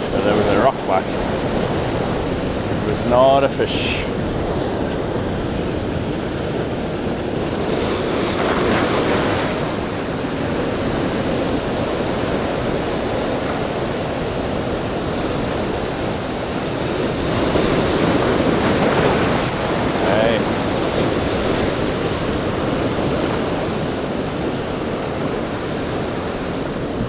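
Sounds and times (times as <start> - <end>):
surf breaking over rocks: 0.0 - 27.0
wind buffeting microphone: 0.0 - 27.0.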